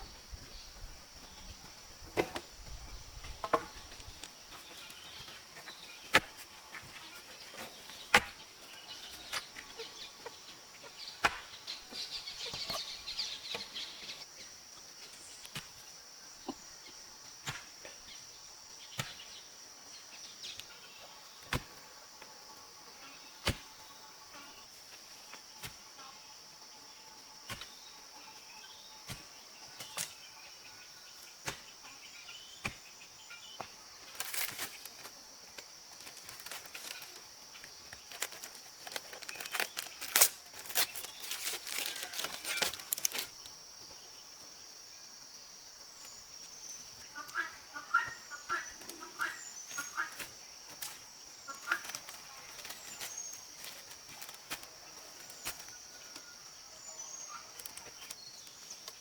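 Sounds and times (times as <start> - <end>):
insects chirping: 0.0 - 59.0.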